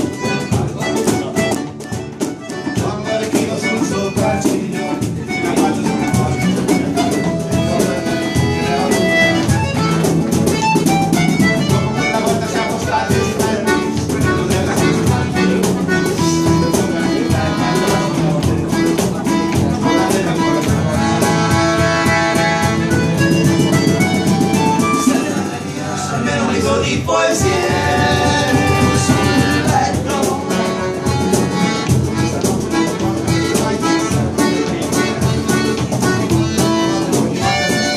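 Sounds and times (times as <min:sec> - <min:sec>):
hand drum: 0:00.0 - 0:25.8, 0:27.3 - 0:37.9
accordion: 0:00.0 - 0:37.9
strummed acoustic guitars: 0:00.0 - 0:37.9.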